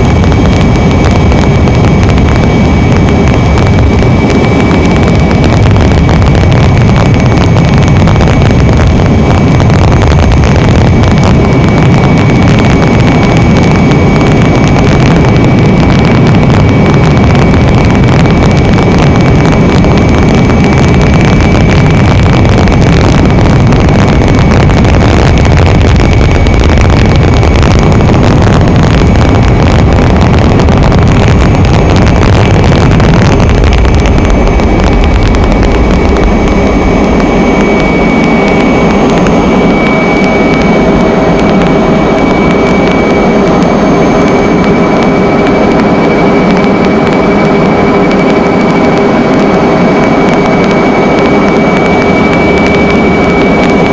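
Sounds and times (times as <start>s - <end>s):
aircraft engine drone: 0.0s - 53.9s
high-pitched whine: 0.0s - 53.9s
mid-pitched hums: 0.0s - 53.9s.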